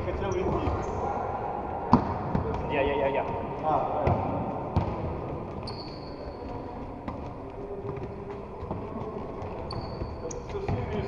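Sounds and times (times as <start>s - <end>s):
indoor football game din: 0.0s - 11.0s.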